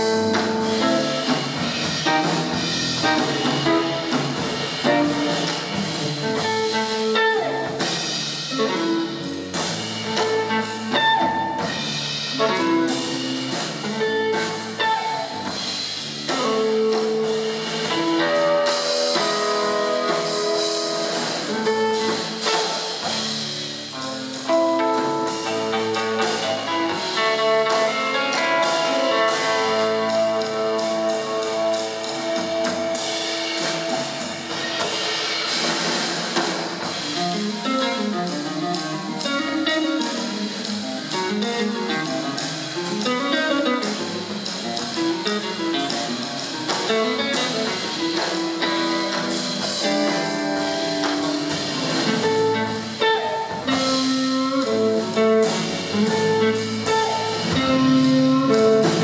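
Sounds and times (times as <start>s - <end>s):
electric guitar melody: 0.0s - 35.6s, 36.7s - 59.0s
bass: 0.0s - 59.0s
drum kit with cymbals: 0.0s - 59.0s.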